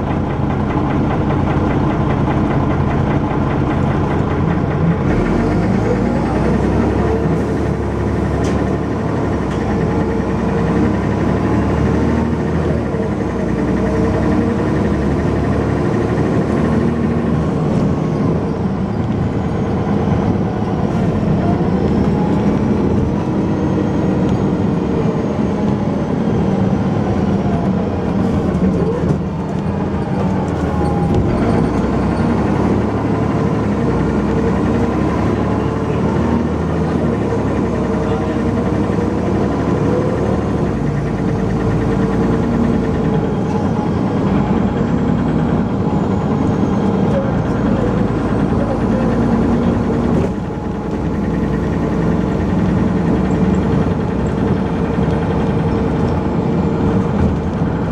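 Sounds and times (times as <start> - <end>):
bus diesel engine under load: 0.0 - 57.9.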